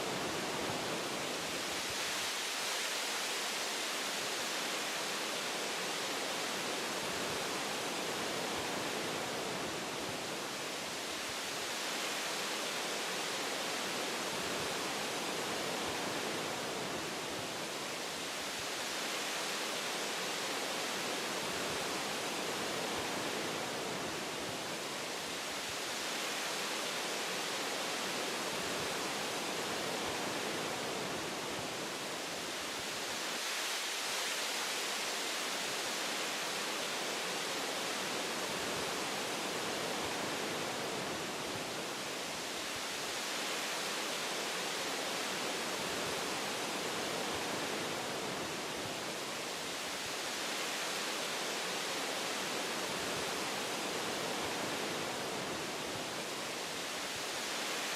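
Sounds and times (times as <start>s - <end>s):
wind through tree branches: 0.0s - 57.9s.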